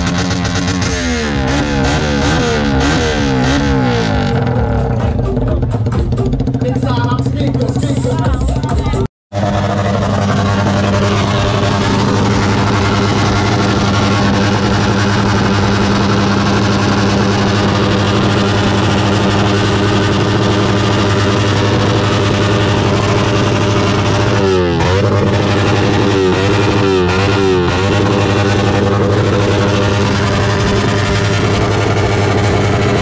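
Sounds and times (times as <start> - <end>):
car engine droning: 0.0 - 33.0.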